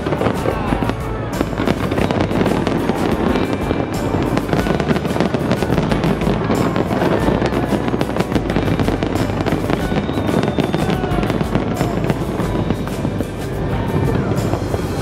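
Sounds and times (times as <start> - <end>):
fireworks crackling and booming: 0.0 - 15.0.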